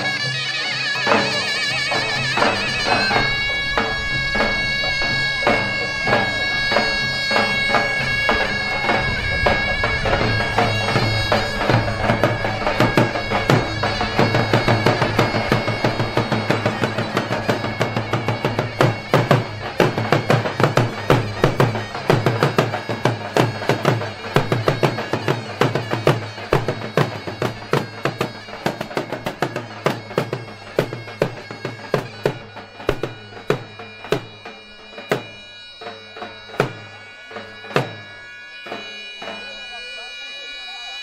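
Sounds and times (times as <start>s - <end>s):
zurna playing steady tones: 0.0s - 41.0s.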